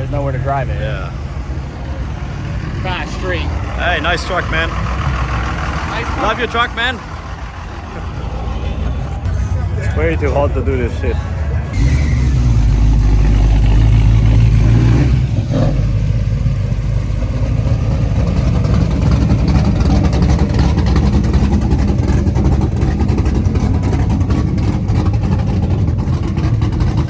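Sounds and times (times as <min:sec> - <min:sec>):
car engine running: 0:00.0 - 0:10.6, 0:11.3 - 0:27.0.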